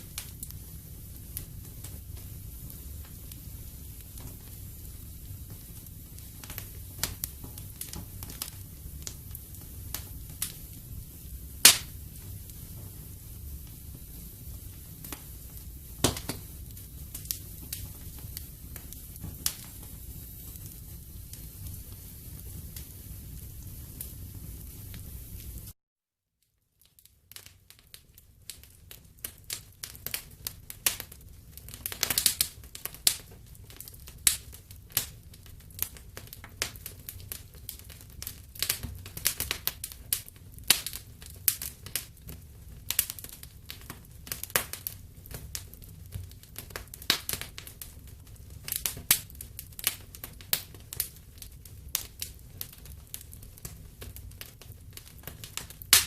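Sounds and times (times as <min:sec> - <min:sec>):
wood fire crackling: 0:00.0 - 0:25.8, 0:26.7 - 0:56.0.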